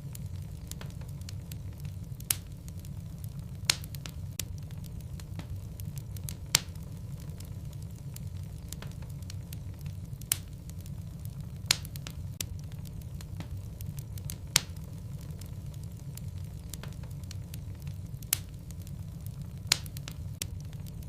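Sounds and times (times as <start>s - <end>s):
burning wood popping: 0.0s - 21.0s
fire crackling: 0.0s - 21.0s
fire low rumble: 0.0s - 21.0s.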